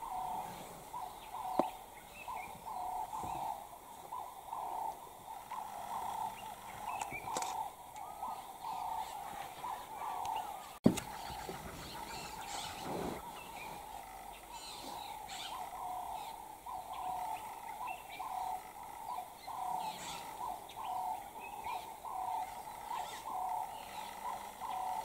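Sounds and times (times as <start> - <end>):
other birds chirping: 0.0 - 25.0.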